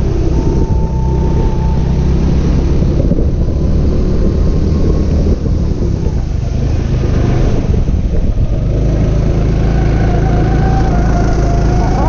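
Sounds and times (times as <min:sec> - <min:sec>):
kart engine running: 0:00.0 - 0:12.0
wind buffeting microphone: 0:00.0 - 0:12.0.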